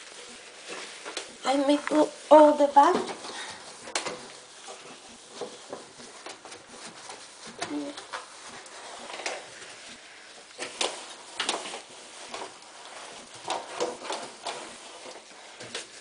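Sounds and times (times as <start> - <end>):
paper towel rubbing microwave walls: 0.0 - 16.0.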